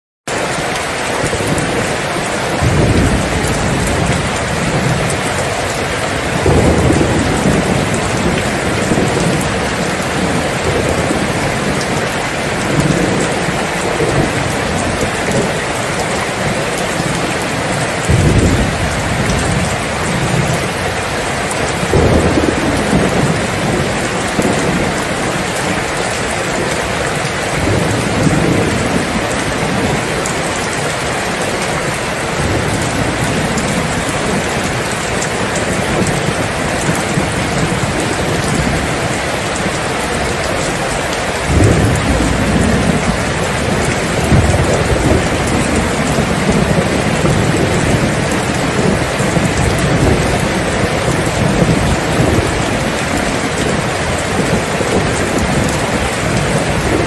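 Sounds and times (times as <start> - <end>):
steady rain: 0.3 - 57.0
rolling thunder: 1.2 - 57.0.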